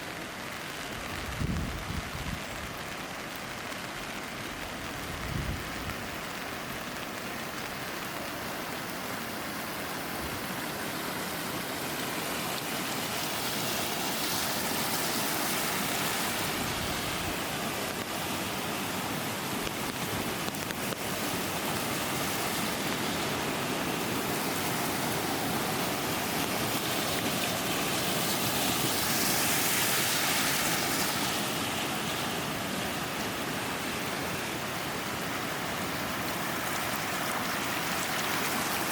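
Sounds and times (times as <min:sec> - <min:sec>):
flowing and falling water: 0:00.0 - 0:38.9.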